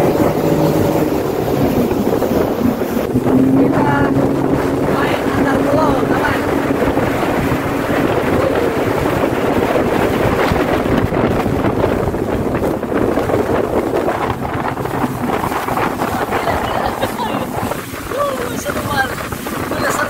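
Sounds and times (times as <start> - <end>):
jet ski engine running: 0.0 - 20.0
water rushing under hull: 0.0 - 20.0
wind buffeting microphone: 0.0 - 20.0.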